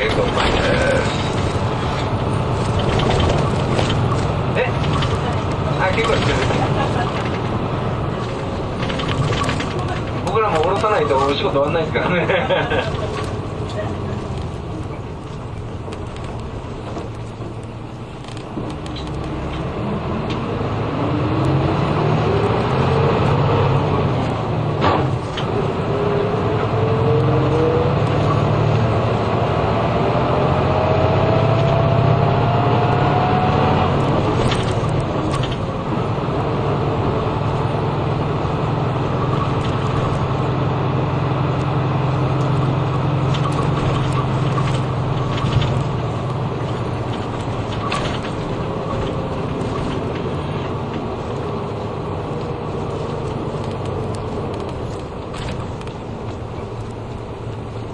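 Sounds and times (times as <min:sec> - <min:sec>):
bus engine and road rumble: 0:00.0 - 0:57.9.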